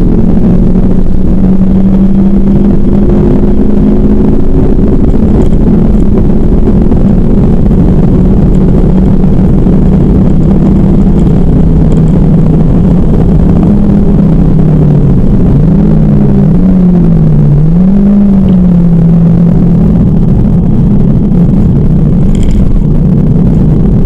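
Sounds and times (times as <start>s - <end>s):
car engine droning inside cabin: 0.0s - 24.0s.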